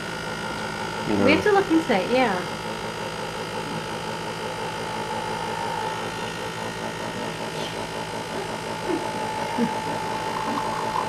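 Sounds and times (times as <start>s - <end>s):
coffee machine humming: 0.0s - 11.0s.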